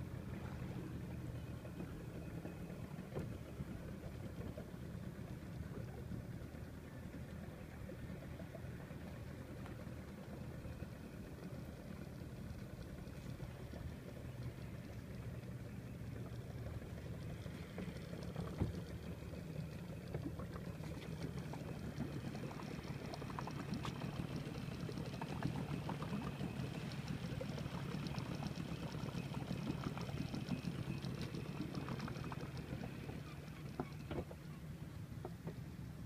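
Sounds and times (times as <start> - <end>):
low hum: 0.0 - 36.0
water lapping against boat hull: 0.0 - 36.0.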